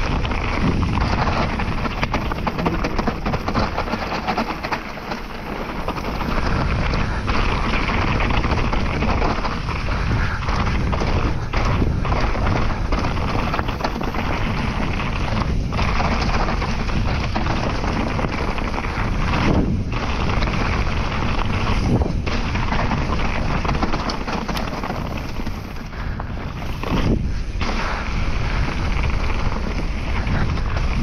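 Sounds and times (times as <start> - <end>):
bike rattling over rough trail: 0.0 - 31.0
wind rumble on microphone: 0.0 - 31.0.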